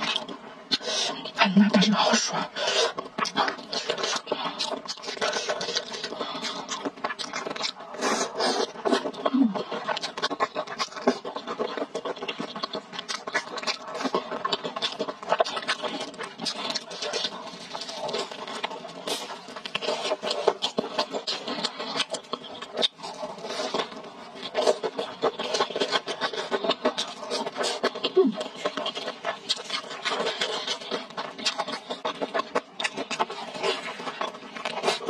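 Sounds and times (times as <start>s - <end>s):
chewing crispy food: 0.0s - 35.0s.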